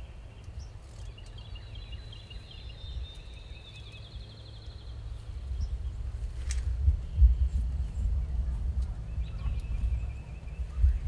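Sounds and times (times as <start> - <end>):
songbird singing: 0.0 - 11.0
wind rumble on microphone: 0.0 - 11.0.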